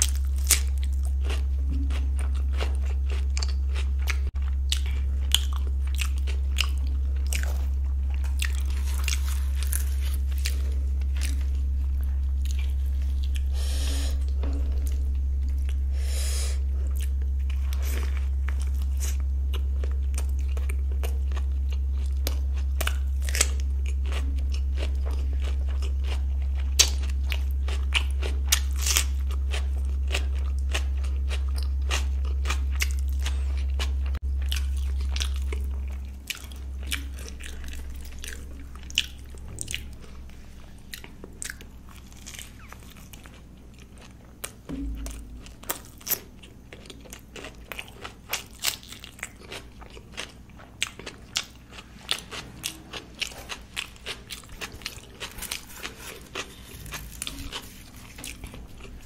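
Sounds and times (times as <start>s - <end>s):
crunchy chewing of food: 0.0s - 59.0s
low hum: 0.0s - 59.0s.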